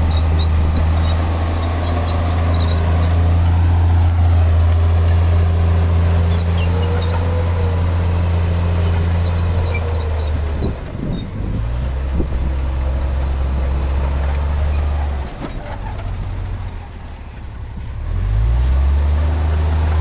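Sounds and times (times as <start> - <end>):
heavy diesel engine under load: 0.0 - 20.0.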